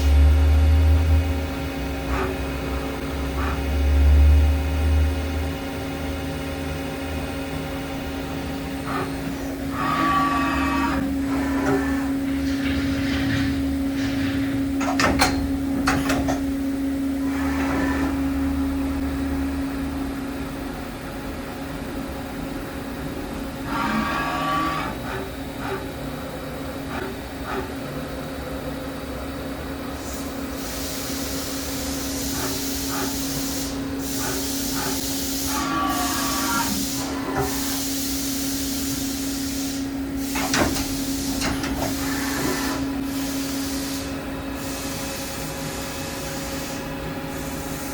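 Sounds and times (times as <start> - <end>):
machine steady hum: 0.0 - 47.9.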